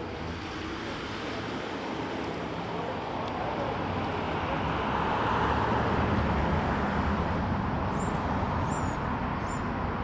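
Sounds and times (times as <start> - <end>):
steady rushing outdoor noise: 0.0 - 10.0.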